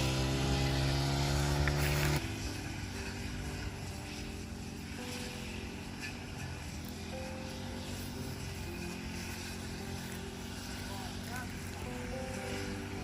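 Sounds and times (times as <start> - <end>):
rough running noise: 0.0 - 13.0
vehicle engine humming: 0.0 - 13.0.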